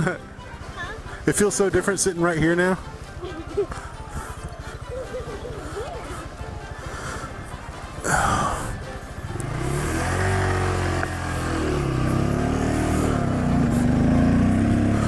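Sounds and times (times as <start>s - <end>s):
motorcycle engine accelerating: 2.8s - 15.0s.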